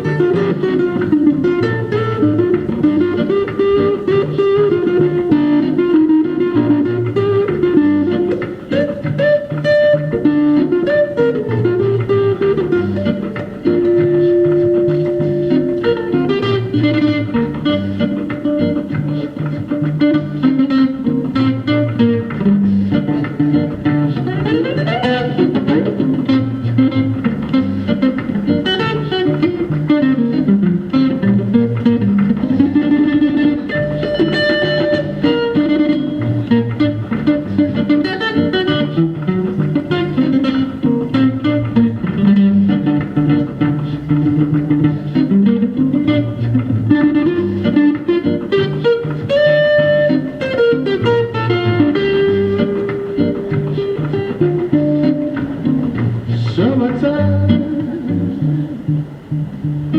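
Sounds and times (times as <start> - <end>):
guitar bass line: 0.0 - 59.9
guitar picked notes: 0.0 - 59.9.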